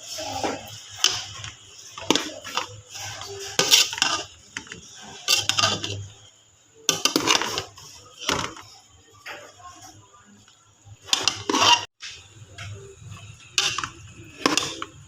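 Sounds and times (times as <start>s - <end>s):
metal utensils clinking on pot: 0.0s - 6.2s, 6.9s - 9.8s, 11.0s - 15.0s
utensil scraping pot: 0.0s - 10.0s, 11.0s - 12.0s, 12.6s - 15.0s.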